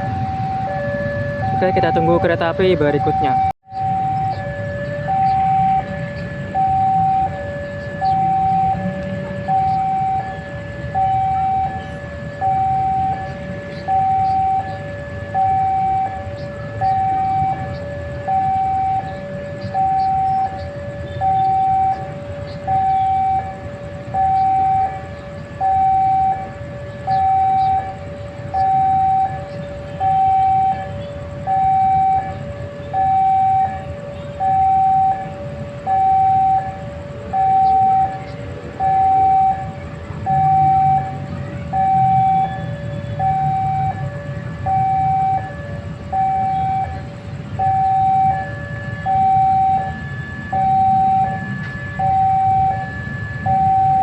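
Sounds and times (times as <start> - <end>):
level-crossing ding-dong alarm: 0.0 - 54.0
steady low rumble: 0.0 - 54.0.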